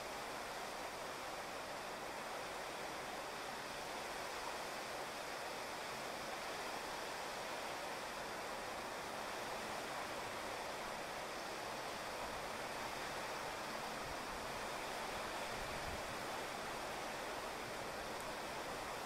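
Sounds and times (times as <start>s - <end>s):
rain on a wet street: 0.0s - 19.0s.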